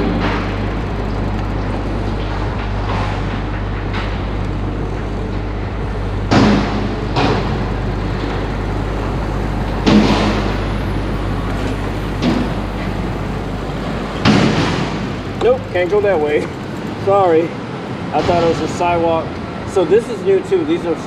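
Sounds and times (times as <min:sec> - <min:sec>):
bicycle clattering knocks: 0:00.0 - 0:17.5
wind and road noise on bicycle: 0:00.0 - 0:19.8.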